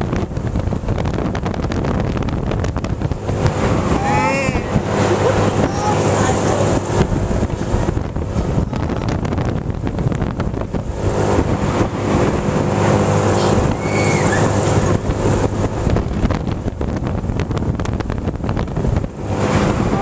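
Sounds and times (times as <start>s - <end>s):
ride drive humming: 0.0s - 20.0s
wind buffeting microphone: 0.0s - 20.0s.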